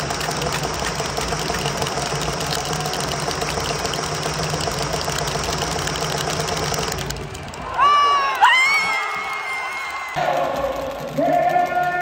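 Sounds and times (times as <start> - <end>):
dense stadium crowd noise: 0.0 - 12.0.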